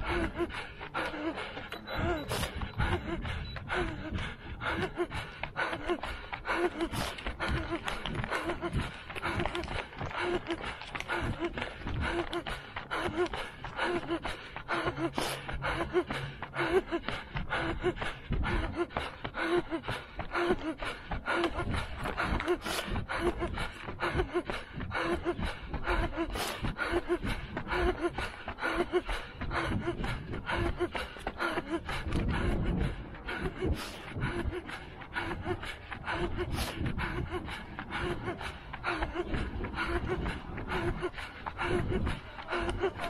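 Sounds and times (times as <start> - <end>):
footsteps on asphalt: 0.0 - 43.0
runner breathing hard: 0.0 - 43.0.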